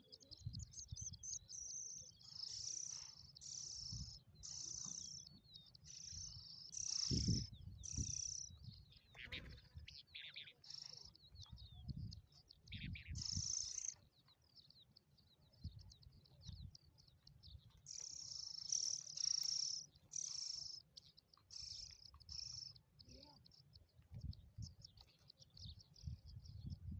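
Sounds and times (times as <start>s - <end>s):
songbirds singing and chirping: 0.0s - 26.9s.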